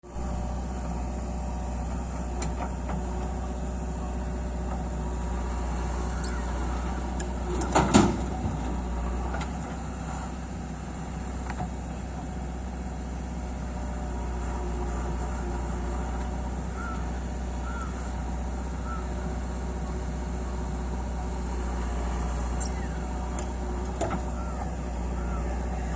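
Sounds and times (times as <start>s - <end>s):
backhoe diesel engine digging: 0.0s - 25.9s.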